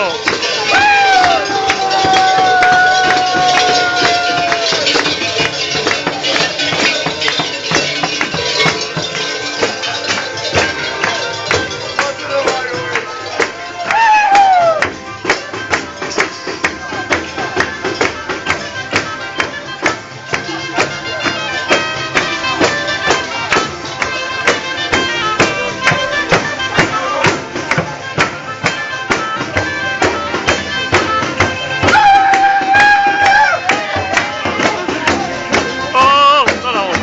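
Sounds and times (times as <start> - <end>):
frame drum beat: 0.0 - 37.0
wind and reed instruments melody: 0.0 - 37.0.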